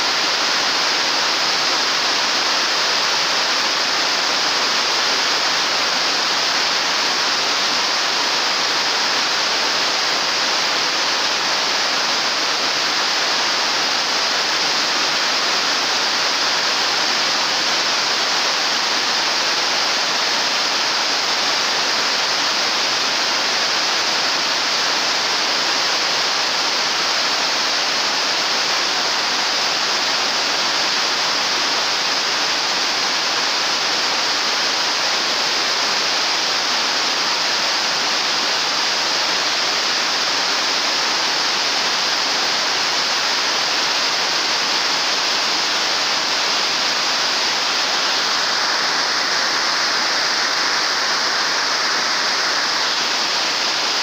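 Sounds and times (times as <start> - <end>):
heavy rain on roofs and pavement: 0.0 - 54.0.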